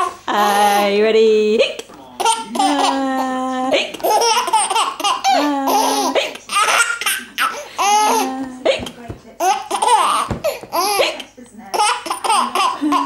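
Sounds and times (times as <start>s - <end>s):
baby laughing: 1.7s - 13.0s.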